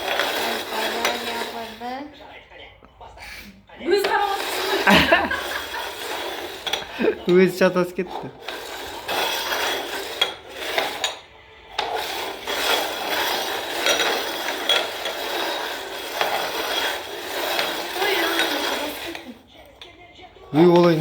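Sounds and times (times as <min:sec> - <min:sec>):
cups scraping on hard surface: 0:00.0 - 0:21.0.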